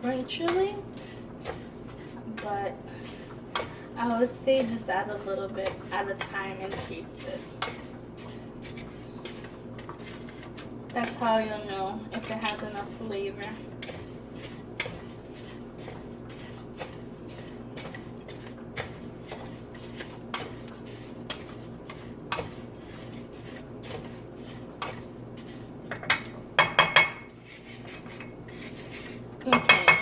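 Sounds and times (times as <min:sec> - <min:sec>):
utensil stirring rice in a pot: 0:00.0 - 0:30.0.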